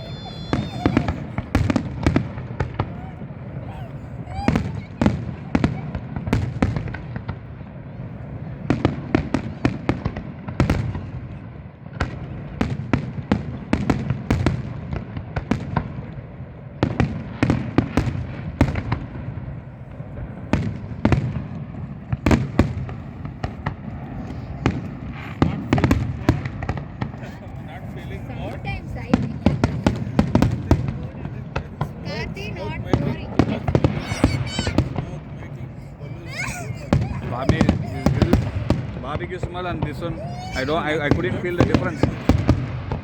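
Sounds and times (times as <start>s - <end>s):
fireworks bangs and cracks: 0.0s - 43.0s.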